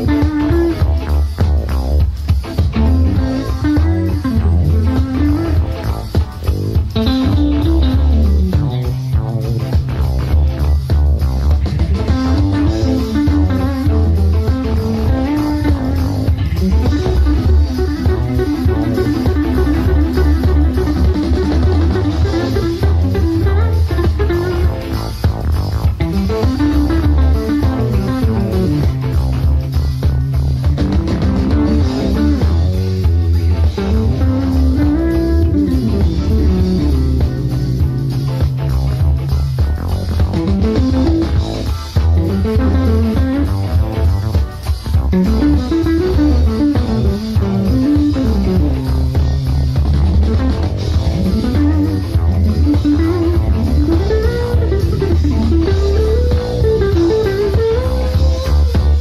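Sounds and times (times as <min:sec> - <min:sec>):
drum hits: 0:00.0 - 0:59.0
electric bass line: 0:00.0 - 0:59.0
jazz fusion band playing live: 0:00.0 - 0:59.0.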